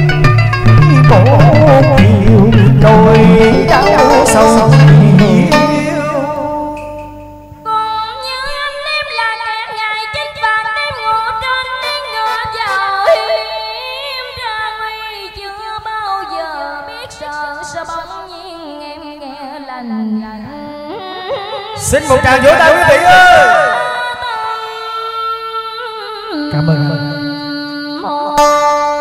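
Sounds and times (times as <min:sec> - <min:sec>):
woman singing ornamented line: 0:03.1 - 0:06.9, 0:07.7 - 0:21.8, 0:23.7 - 0:29.0.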